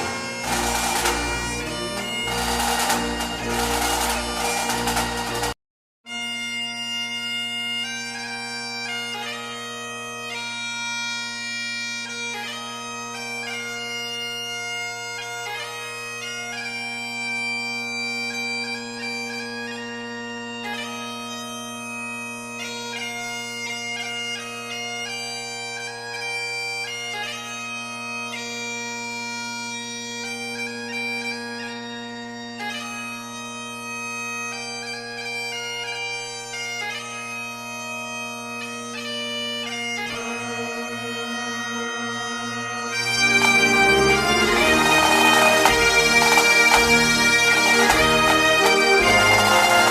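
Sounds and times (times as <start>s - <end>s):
bagpipe music: 0.0s - 49.9s.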